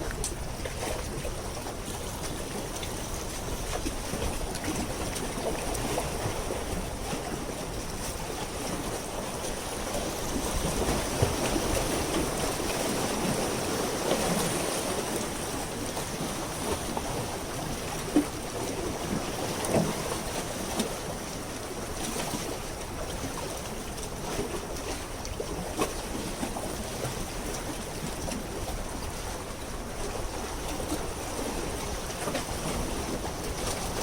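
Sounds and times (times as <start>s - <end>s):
water lapping against pier: 0.0s - 34.0s.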